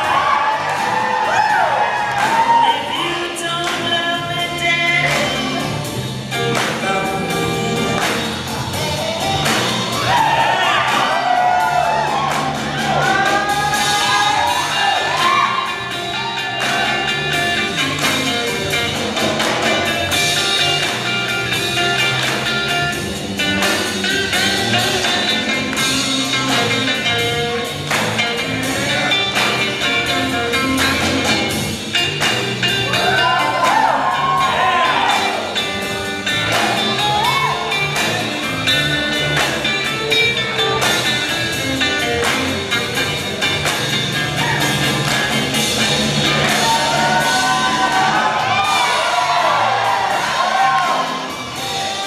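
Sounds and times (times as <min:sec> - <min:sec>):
blues song with singer and band: 0:00.0 - 0:52.0.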